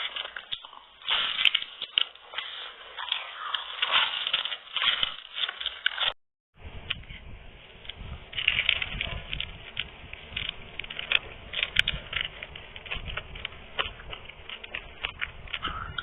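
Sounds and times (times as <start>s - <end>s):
crunchy biting and chewing: 0.0s - 6.2s, 8.4s - 16.0s
low chewing rumble: 0.0s - 16.0s.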